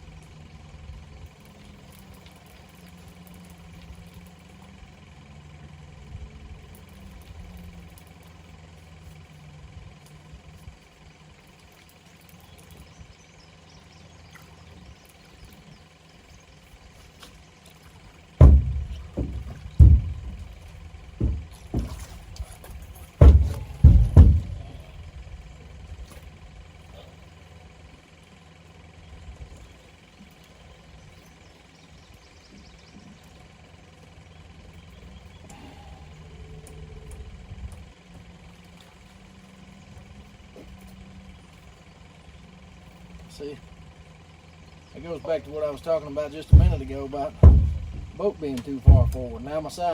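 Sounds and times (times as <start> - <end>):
low motor hum: 0.0 - 49.9.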